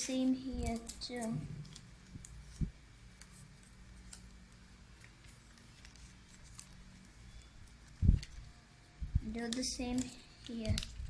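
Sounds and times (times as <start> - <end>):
paper being folded: 0.0 - 8.6, 9.4 - 11.0
low steady hum: 0.0 - 11.0.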